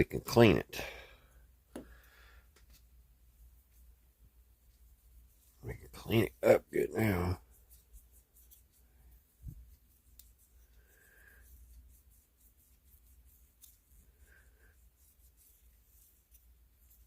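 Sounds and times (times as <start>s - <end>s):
rubbing and wiping strokes: 2.5s - 17.0s.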